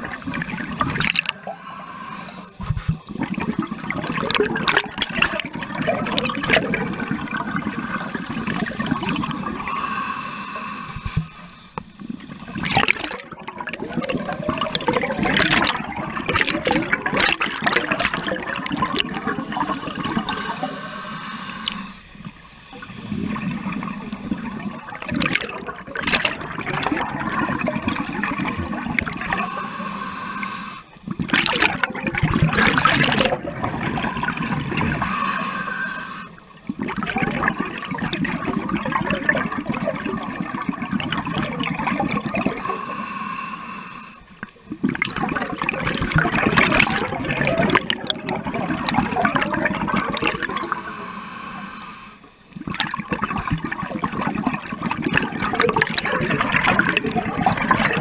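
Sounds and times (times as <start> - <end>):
scuba regulator bubbling underwater: 0.0 - 58.0.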